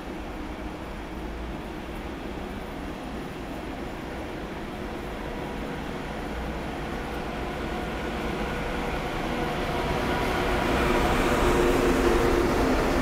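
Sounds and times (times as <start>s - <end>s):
train humming tone: 0.0s - 13.0s
train rumbling on rails: 0.0s - 13.0s.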